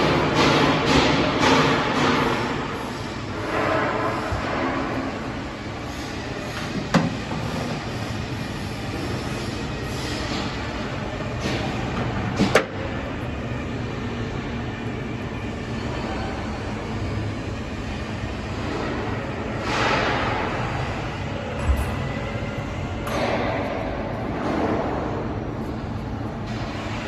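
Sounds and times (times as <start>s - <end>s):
rumbling background noise: 0.0s - 27.0s.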